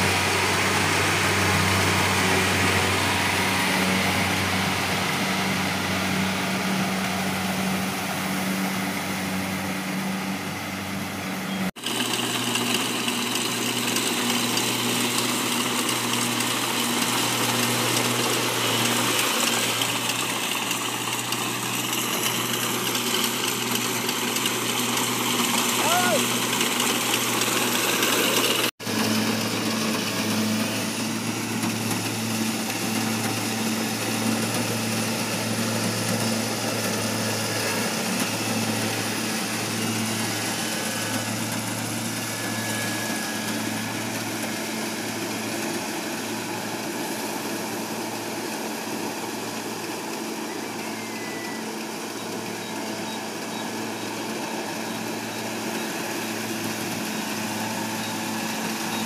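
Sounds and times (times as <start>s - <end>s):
combine harvester engine running: 0.0s - 59.0s.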